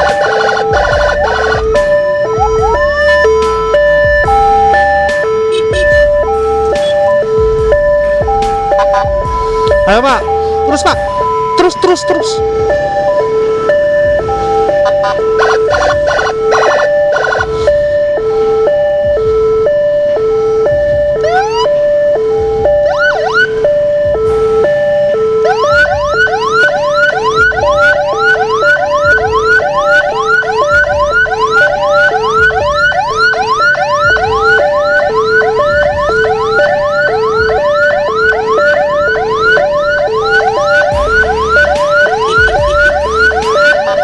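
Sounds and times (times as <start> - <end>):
rapid chirping siren: 0.0 - 44.0
two-tone hi-lo siren: 0.0 - 44.0.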